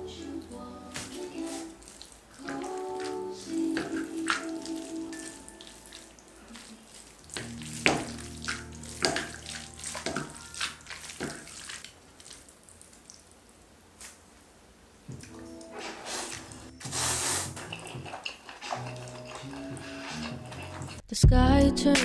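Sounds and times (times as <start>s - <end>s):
soft music: 0.0s - 11.8s, 15.2s - 22.0s
running water splashing: 0.4s - 21.0s.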